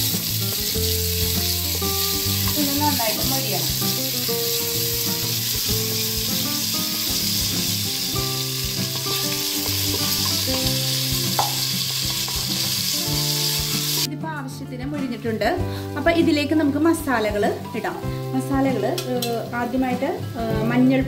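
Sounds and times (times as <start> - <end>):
onions sizzling in oil: 0.0 - 14.1, 15.7 - 20.7.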